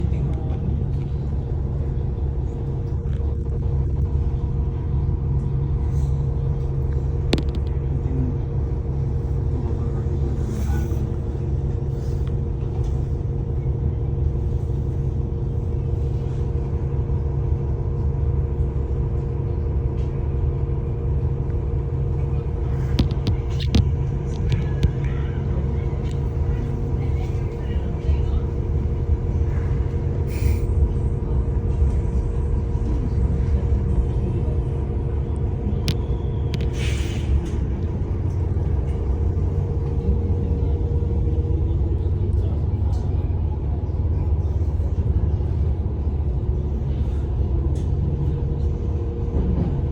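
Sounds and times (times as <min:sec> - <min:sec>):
city street traffic: 0:00.0 - 0:49.9.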